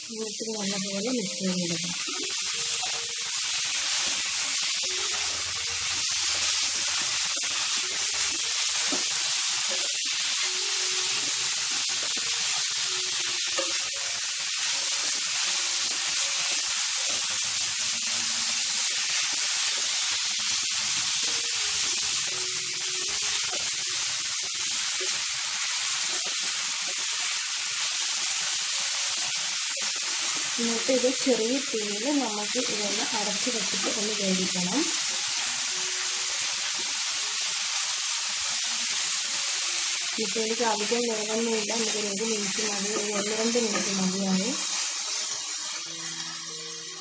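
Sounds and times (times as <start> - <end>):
food sizzling in a pan: 0.0 - 47.0.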